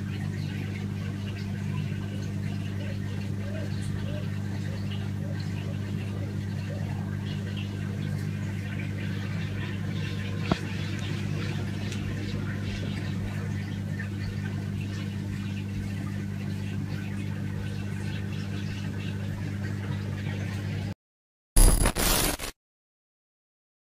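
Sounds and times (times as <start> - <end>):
aquarium pump humming: 0.0 - 20.9.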